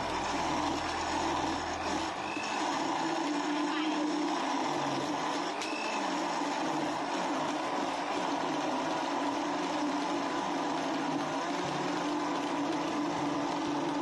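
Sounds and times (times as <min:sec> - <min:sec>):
blender motor running: 0:00.0 - 0:14.0.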